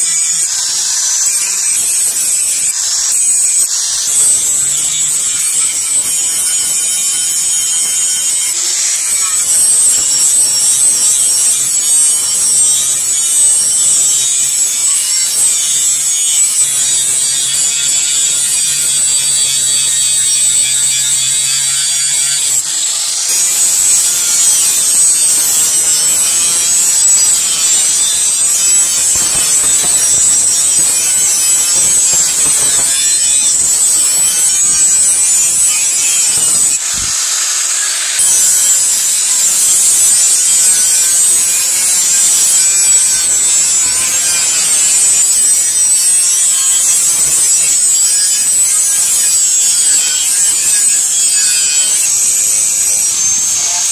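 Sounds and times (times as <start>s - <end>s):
angle grinder grinding metal: 0.0s - 53.9s.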